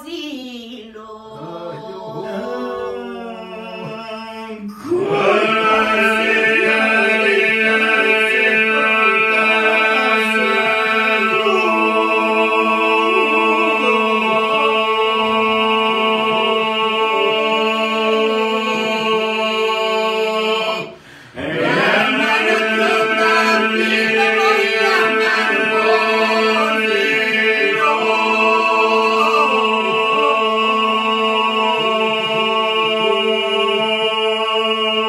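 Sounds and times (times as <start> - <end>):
held vocal drone: 1.0 - 35.0
unaccompanied group singing: 1.2 - 35.0.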